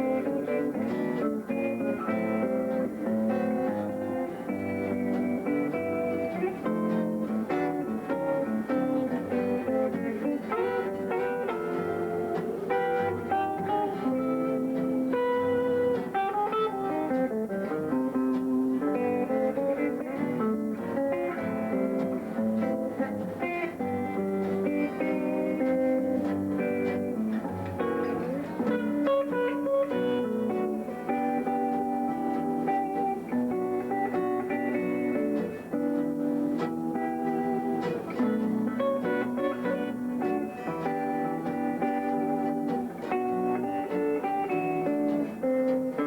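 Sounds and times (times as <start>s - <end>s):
thumbpicked guitar instrumental: 0.0s - 46.0s.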